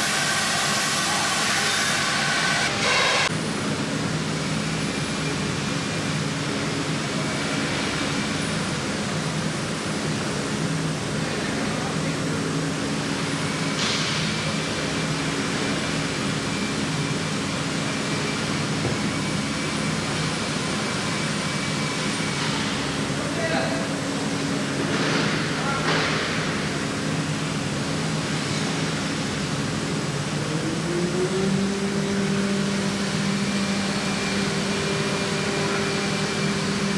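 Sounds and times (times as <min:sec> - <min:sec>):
cnc router machine hum: 0:00.0 - 0:36.9.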